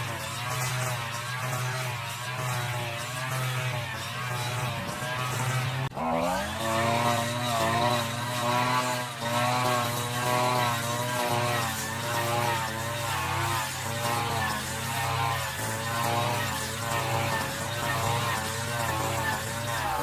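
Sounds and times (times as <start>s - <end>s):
brush cutter engine at high revs: 0.0s - 20.0s.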